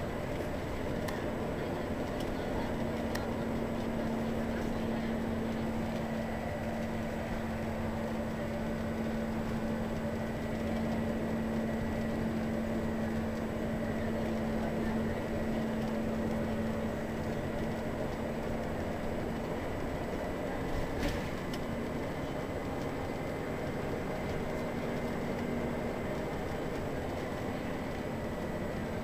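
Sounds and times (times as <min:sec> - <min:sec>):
bus diesel engine drone: 0:00.0 - 0:29.0
road and cabin noise: 0:00.0 - 0:29.0.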